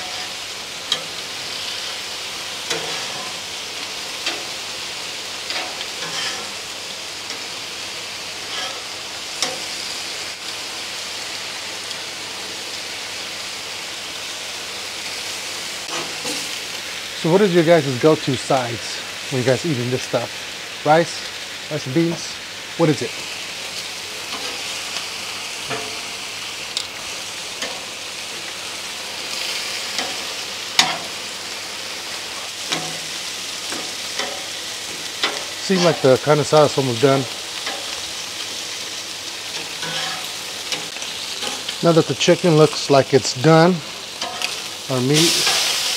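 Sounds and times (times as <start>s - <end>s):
meat sizzling on a griddle: 0.0s - 45.9s.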